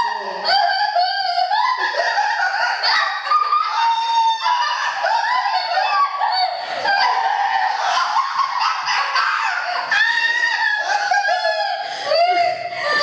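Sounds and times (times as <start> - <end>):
person laughing and squealing: 0.0 - 13.0.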